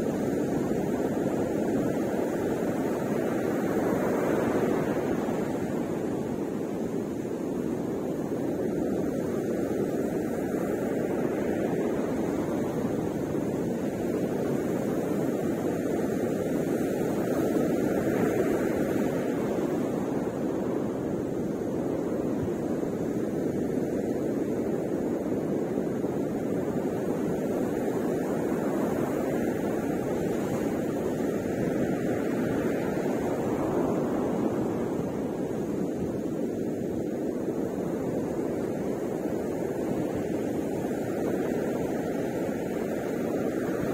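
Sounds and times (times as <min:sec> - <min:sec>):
ocean surf breaking: 0:00.0 - 0:43.9.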